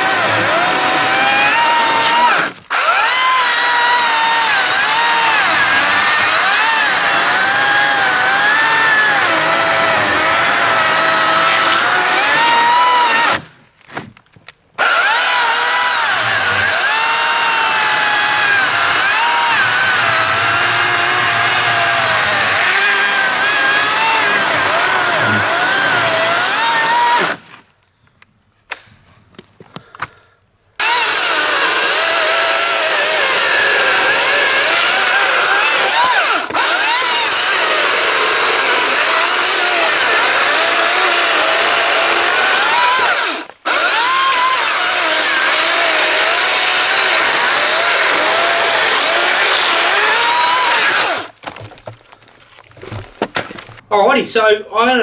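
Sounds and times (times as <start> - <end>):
chainsaw cutting logs: 0.0 - 14.1, 14.8 - 27.6, 30.8 - 53.8.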